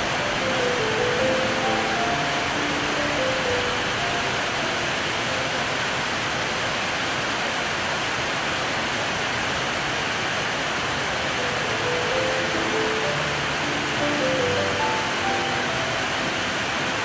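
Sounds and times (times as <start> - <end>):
heavy rain on metal roofs: 0.0 - 17.0.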